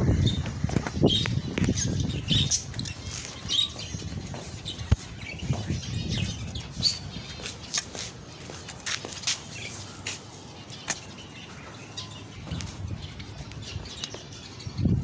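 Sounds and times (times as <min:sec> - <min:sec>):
finches chirping: 0:00.1 - 0:15.0.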